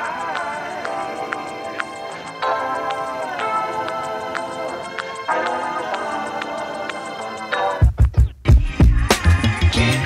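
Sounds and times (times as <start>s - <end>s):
electronic chords with light tick: 0.0s - 10.0s
music with heavy bass beat: 0.0s - 10.0s.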